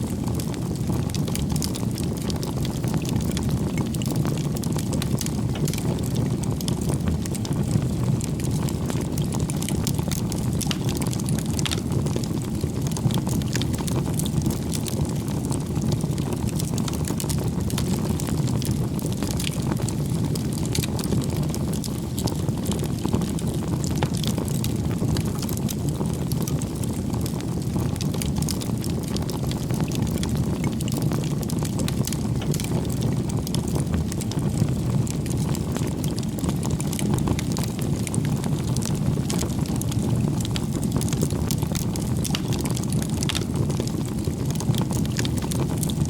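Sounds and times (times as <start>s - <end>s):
campfire flames roaring: 0.0s - 46.0s
wood crackling and popping: 0.0s - 46.0s.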